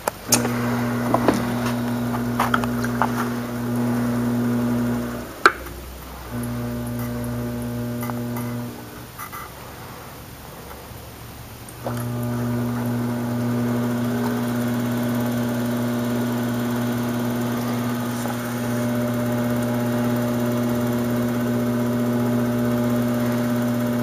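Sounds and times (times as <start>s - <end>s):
pottery wheel motor humming: 0.2s - 9.2s, 11.8s - 24.0s.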